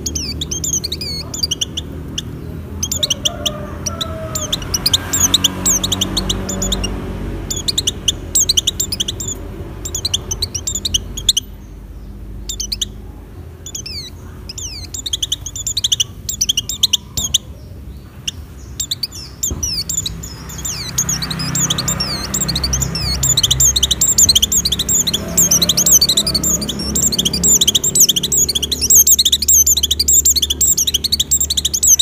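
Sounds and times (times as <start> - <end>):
bird twittering song: 0.0 - 32.0.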